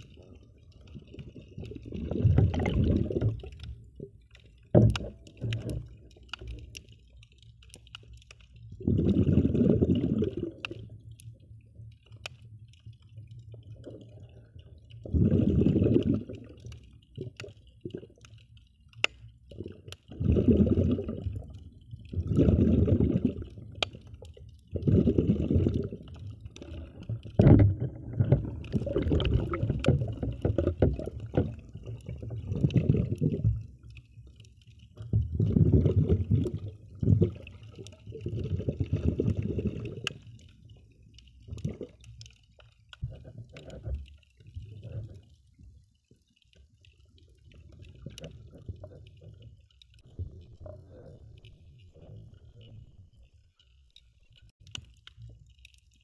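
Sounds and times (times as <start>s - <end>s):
muffled underwater sloshing: 0.0s - 56.0s.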